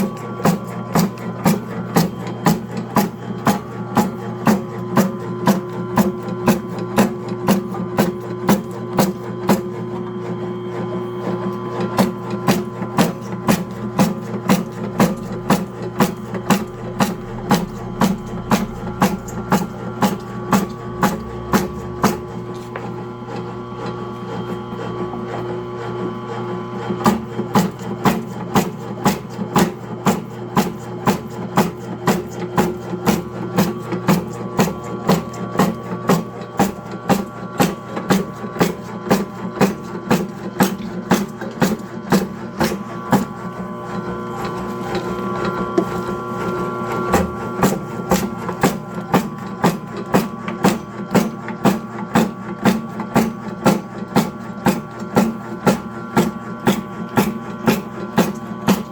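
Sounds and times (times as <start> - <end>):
machine motor humming: 0.0 - 51.8.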